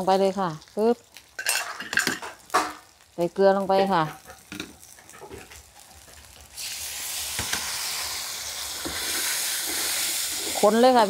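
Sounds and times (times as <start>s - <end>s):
loud sizzle in a wok: 0.0s - 11.0s.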